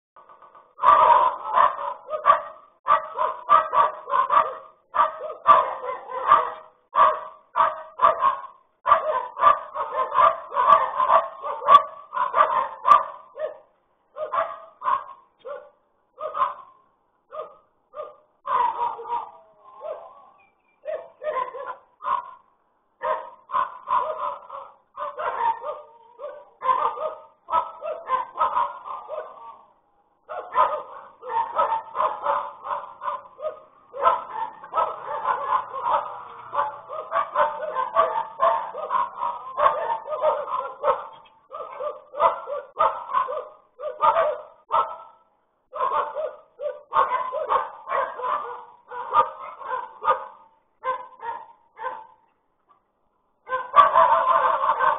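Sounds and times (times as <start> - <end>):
dog barking: 0.2 - 52.8, 53.4 - 54.9.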